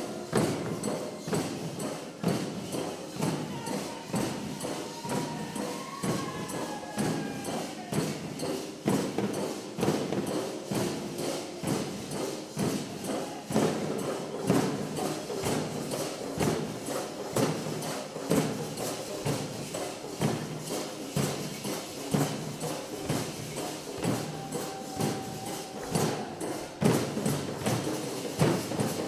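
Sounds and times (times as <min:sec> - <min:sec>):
barrel drums beaten with sticks: 0:00.0 - 0:29.0.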